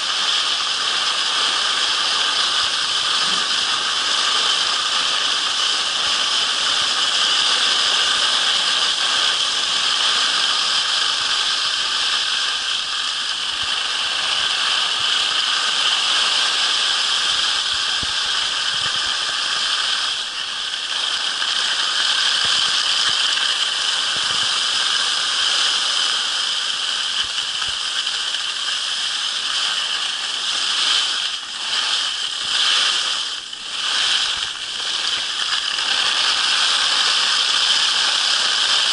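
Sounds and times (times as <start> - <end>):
skis sliding over snow: 0.0 - 38.9.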